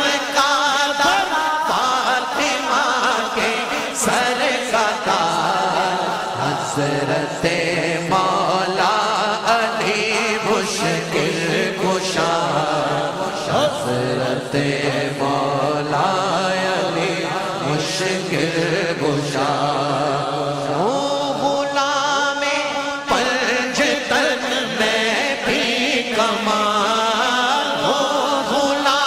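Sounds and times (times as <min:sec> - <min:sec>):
voice chanting: 0:00.0 - 0:29.0.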